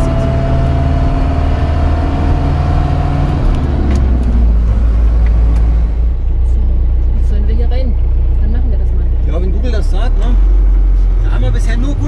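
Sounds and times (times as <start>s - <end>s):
van diesel engine running: 0.0s - 12.0s.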